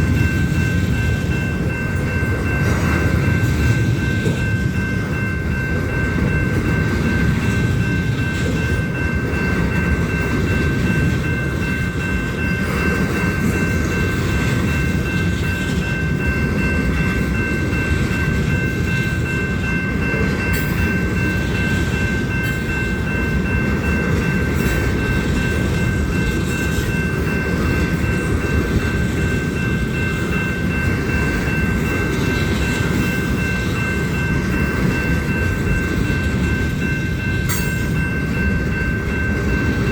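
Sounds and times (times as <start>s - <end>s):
high-pitched ringing tone: 0.0s - 39.9s
train cars rumbling on rails: 0.0s - 39.9s.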